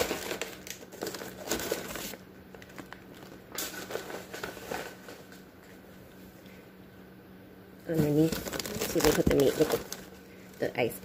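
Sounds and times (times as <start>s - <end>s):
plastic bags crinkling: 0.0s - 5.8s, 7.9s - 11.0s.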